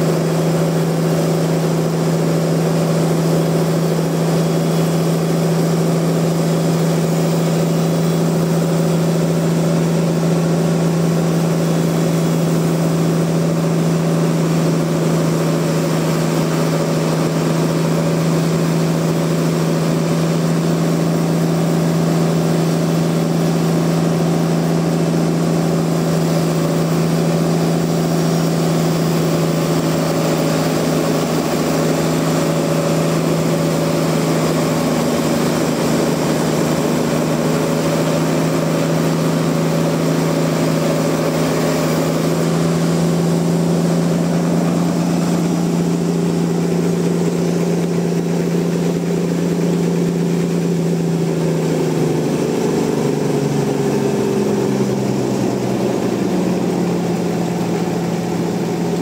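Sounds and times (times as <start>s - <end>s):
sawmill machinery hum: 0.0s - 59.0s.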